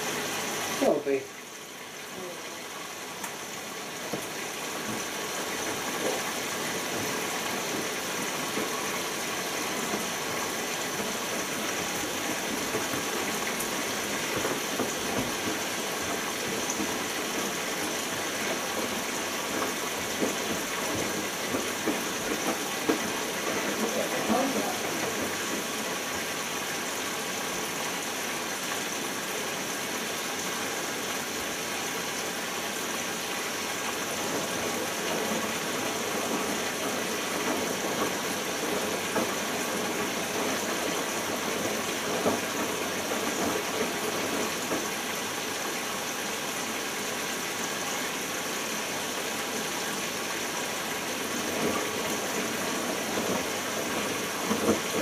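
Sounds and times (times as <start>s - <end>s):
washing machine water rushing: 0.0s - 55.0s.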